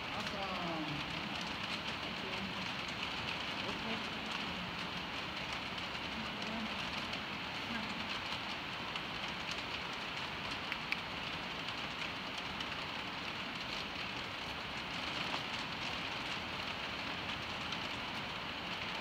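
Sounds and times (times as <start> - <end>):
rain on a roof: 0.0 - 19.0.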